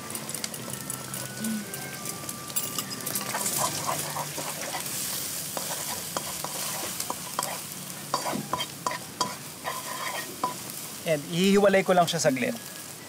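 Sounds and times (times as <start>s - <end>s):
egg sizzling in a pan: 0.0s - 13.0s.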